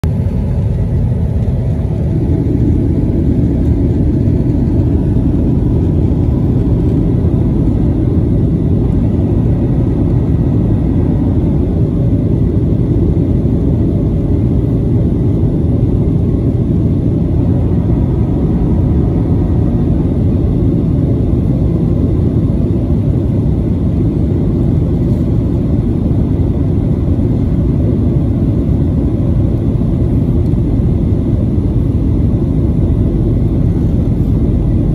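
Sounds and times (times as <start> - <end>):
aircraft cabin engine rumble: 0.0 - 34.9
faint steady whine: 0.0 - 34.9.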